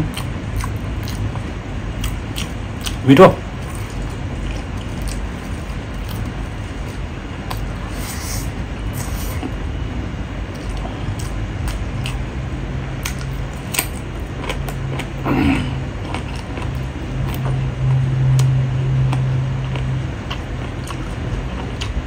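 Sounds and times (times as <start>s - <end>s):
chewing: 0.0s - 3.0s, 3.6s - 7.7s, 10.5s - 12.2s, 13.0s - 22.0s
low hum: 0.0s - 22.0s.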